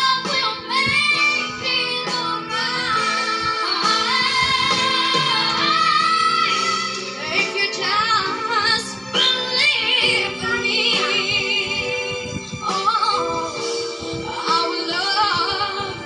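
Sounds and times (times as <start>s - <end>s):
backing track: 0.0s - 16.0s
woman singing pop ballad: 0.0s - 16.0s.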